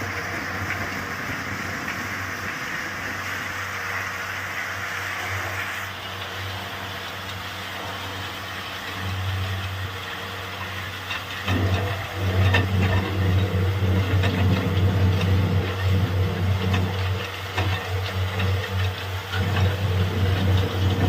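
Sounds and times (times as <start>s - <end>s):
drilling rig engine running: 0.0s - 21.0s.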